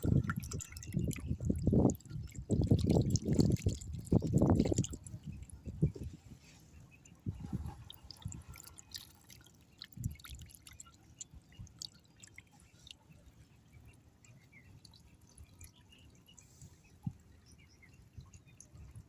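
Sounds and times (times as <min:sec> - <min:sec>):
faint water dripping: 0:00.0 - 0:06.2, 0:06.8 - 0:19.0.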